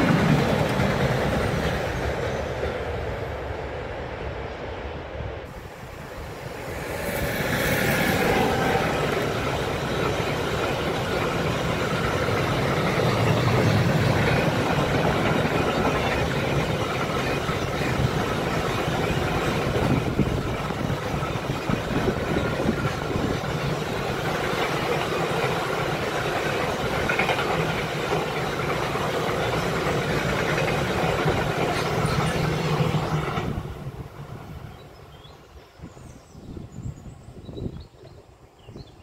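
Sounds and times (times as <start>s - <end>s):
freight train wheels rattling: 0.0s - 3.1s, 5.7s - 34.8s.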